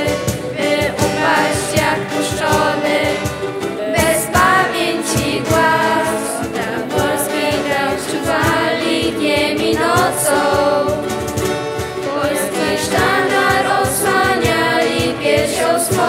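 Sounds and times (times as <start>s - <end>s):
young voices singing in harmony: 0.0s - 11.4s, 12.0s - 16.0s
strummed acoustic guitar: 0.0s - 16.0s.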